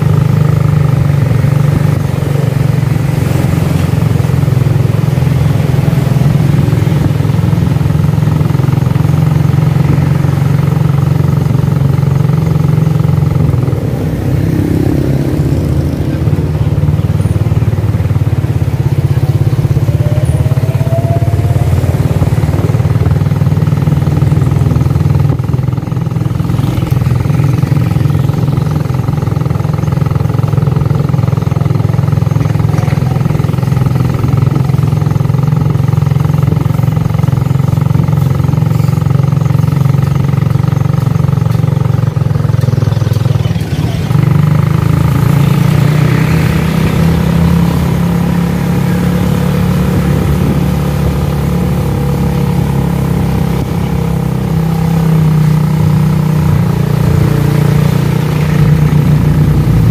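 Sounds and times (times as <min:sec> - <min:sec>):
motorcycle engine running: 0:00.0 - 0:59.9
road and wind noise: 0:00.0 - 0:59.9.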